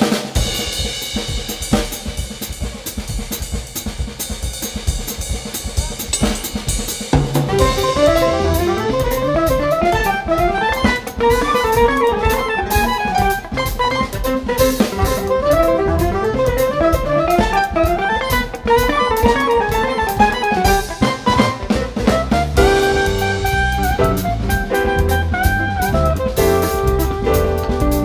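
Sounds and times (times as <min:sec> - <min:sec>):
drum groove: 0:00.0 - 0:28.0
jazz band playing: 0:00.0 - 0:28.0.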